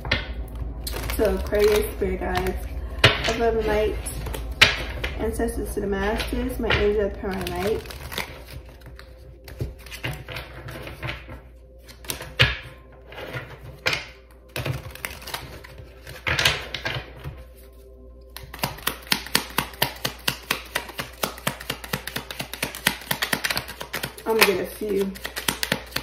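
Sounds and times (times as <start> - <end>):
cards being shuffled: 0.4 - 5.2, 6.2 - 17.8, 18.4 - 26.0.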